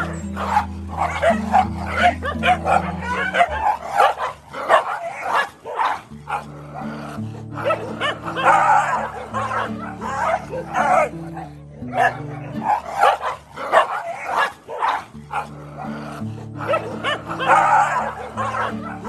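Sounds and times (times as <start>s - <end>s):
music with held low notes: 0.0s - 5.1s, 6.1s - 14.2s, 15.1s - 19.0s
dogs barking and yelping: 0.0s - 19.0s.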